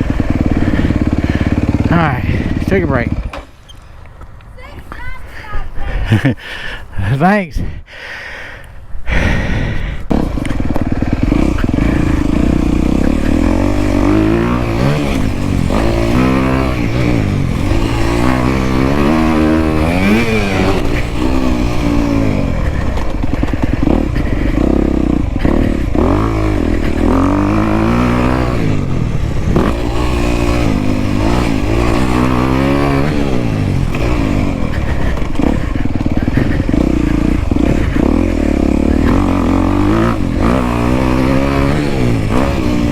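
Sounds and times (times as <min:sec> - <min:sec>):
motorcycle engine revving: 0:00.0 - 0:04.3, 0:09.1 - 0:42.9.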